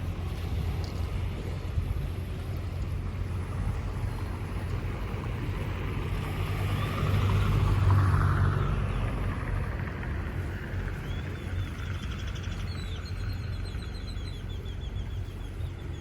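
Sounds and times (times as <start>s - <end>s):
engine running: 0.0s - 16.0s
water noise: 0.0s - 16.0s
wind: 0.0s - 16.0s.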